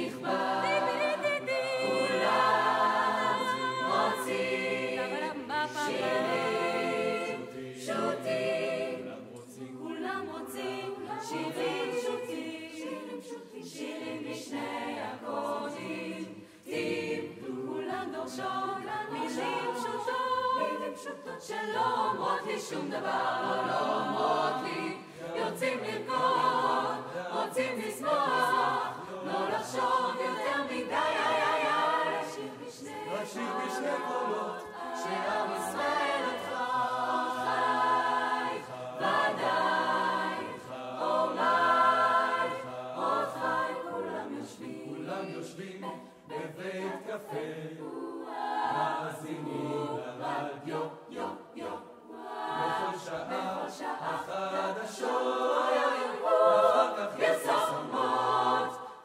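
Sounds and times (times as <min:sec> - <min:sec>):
youth choir singing: 0:00.0 - 0:59.0.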